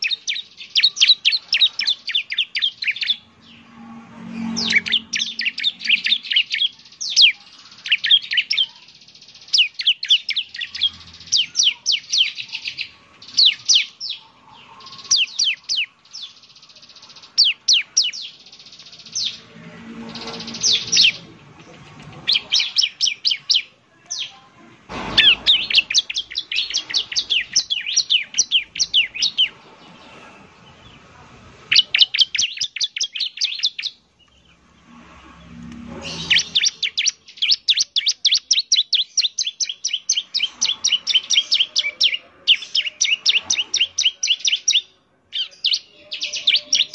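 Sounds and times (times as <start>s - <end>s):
bird singing rapid high notes: 0.0s - 31.1s, 31.7s - 46.9s.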